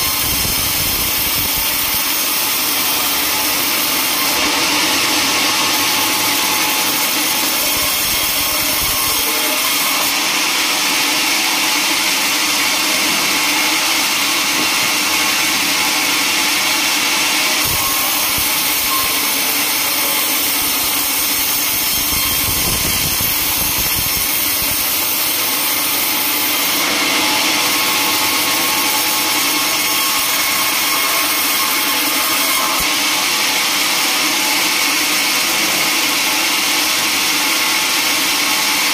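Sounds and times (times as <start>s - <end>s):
band saw blade cutting log: 0.0s - 38.9s.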